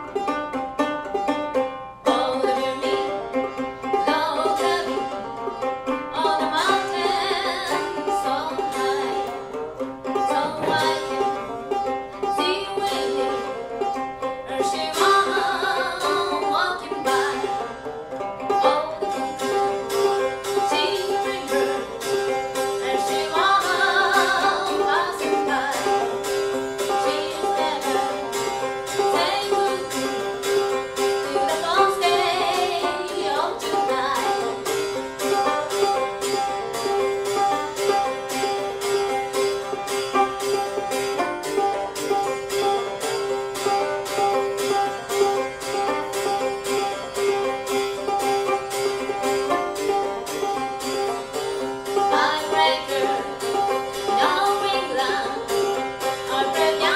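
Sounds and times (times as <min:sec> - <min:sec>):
banjo picking: 0:00.0 - 0:56.9.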